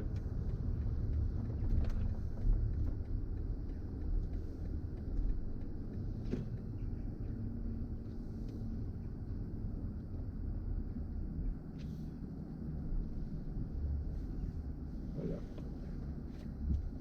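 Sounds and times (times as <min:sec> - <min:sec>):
car road and tyre noise: 0:00.0 - 0:17.0.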